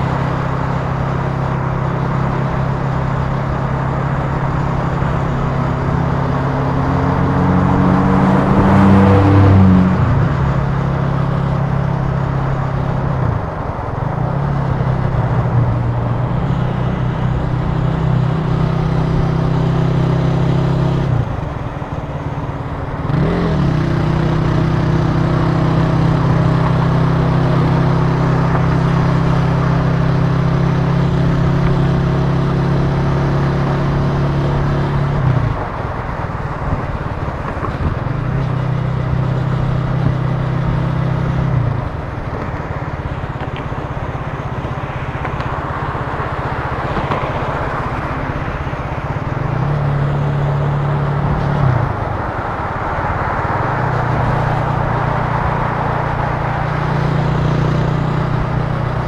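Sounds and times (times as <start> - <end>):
motorcycle engine riding: 0.0 - 59.0
wind and road rush: 0.0 - 59.0.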